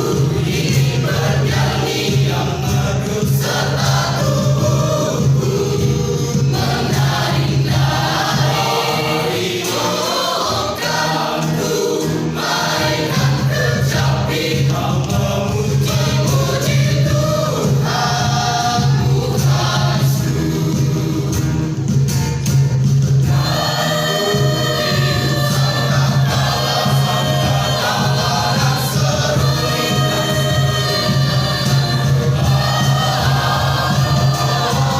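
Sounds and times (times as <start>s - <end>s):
choir singing gospel: 0.0s - 22.0s, 23.2s - 34.9s.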